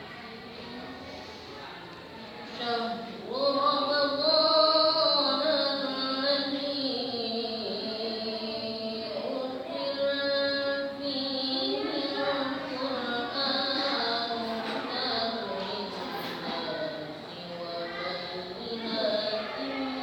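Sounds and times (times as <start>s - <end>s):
person reciting melodically: 2.4s - 20.0s.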